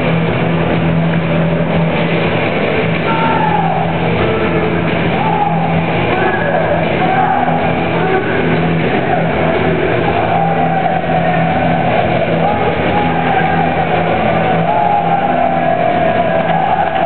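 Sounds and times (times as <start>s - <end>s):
steady low hum: 0.0s - 17.0s
crowd chanting: 3.0s - 17.0s.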